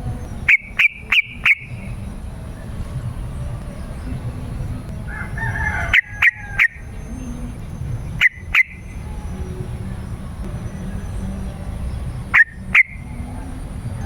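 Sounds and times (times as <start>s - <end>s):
bird calling: 0.0s - 3.2s, 3.8s - 14.0s.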